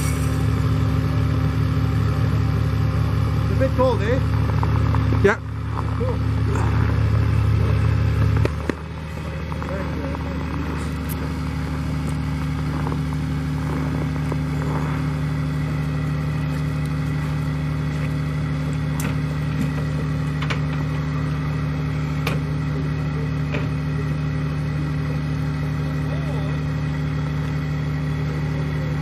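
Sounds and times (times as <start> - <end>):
tow truck engine running: 0.0 - 29.0.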